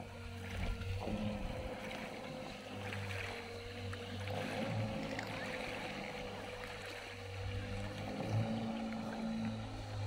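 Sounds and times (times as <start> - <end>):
electric outboard motor whine: 0.0 - 10.0
small waves lapping: 0.0 - 10.0.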